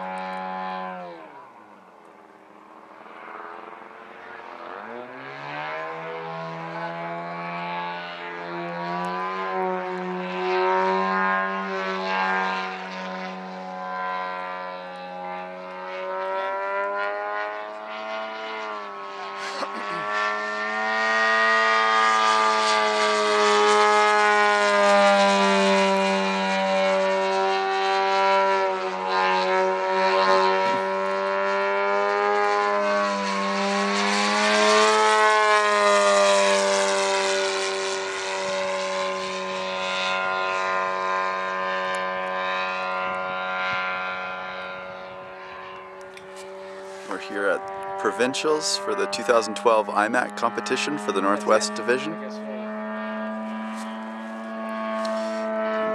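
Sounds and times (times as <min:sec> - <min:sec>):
model plane engine buzzing: 0:00.0 - 0:55.9.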